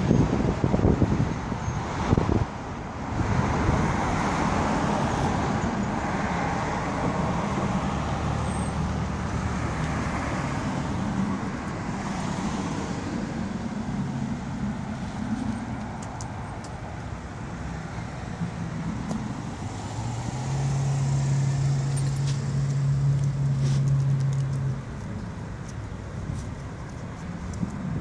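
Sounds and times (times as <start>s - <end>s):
tyre and road noise: 0.0s - 28.0s
vehicles driving past: 0.0s - 28.0s.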